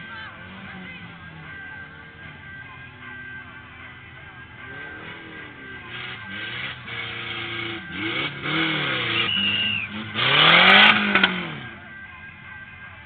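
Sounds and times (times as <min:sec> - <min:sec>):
buggy engines revving: 0:00.0 - 0:13.0.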